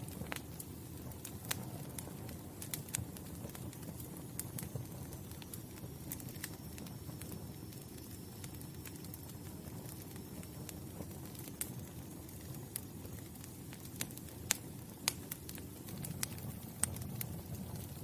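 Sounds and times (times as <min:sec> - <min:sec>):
fire popping and snapping: 0:00.0 - 0:18.0
wood fire crackling: 0:00.0 - 0:18.0.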